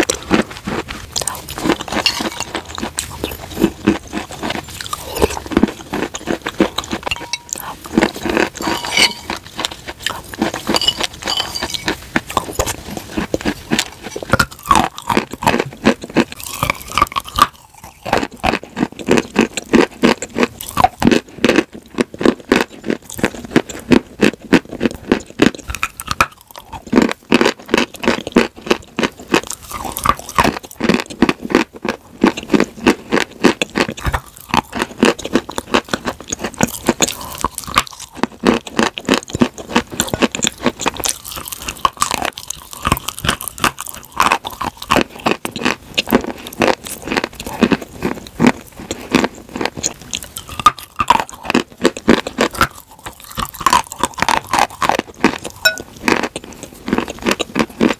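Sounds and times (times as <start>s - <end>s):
crunching and chewing chalk: 0.0s - 57.9s.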